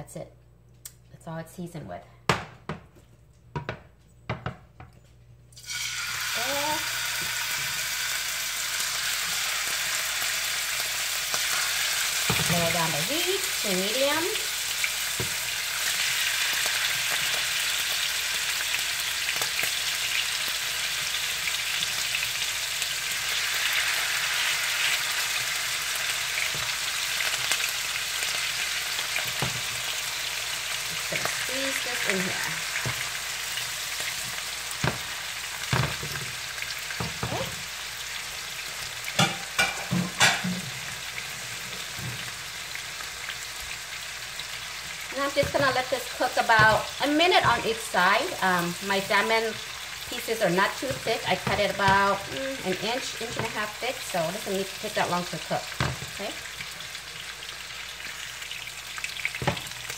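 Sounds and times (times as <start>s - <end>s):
fish sizzling in oil: 5.6s - 59.9s.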